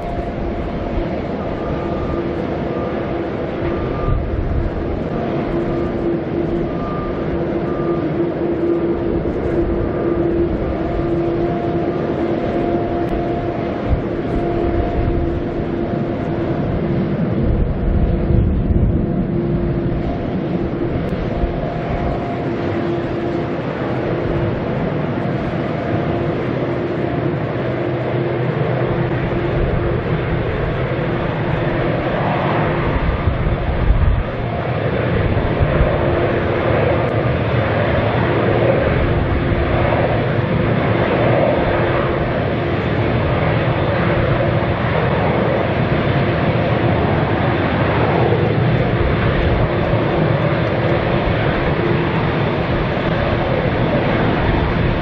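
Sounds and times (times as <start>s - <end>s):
jet engines idling: 0.0s - 55.0s.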